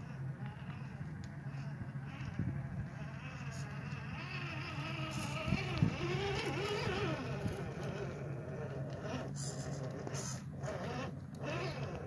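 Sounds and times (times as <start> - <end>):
steady low hum: 0.0 - 12.0
toy car electric motor whining: 0.4 - 12.0.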